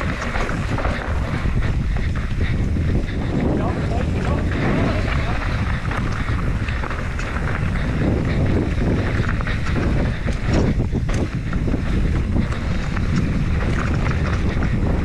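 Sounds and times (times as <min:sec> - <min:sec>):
bike clicks and rattles: 0:00.0 - 0:15.0
tyres rolling on dirt: 0:00.0 - 0:15.0
wind buffeting microphone: 0:00.0 - 0:15.0.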